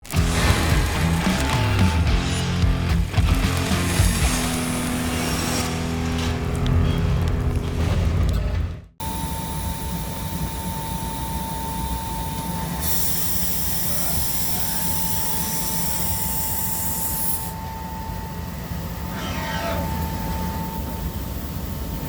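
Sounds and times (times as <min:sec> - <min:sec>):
industrial machine hum: 0:00.0 - 0:22.0.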